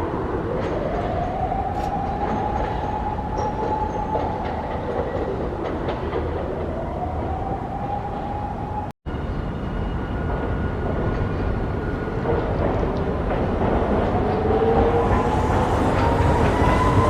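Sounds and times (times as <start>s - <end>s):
wheels rumbling on rails: 0.0s - 17.0s
tram motor whine: 0.1s - 17.0s.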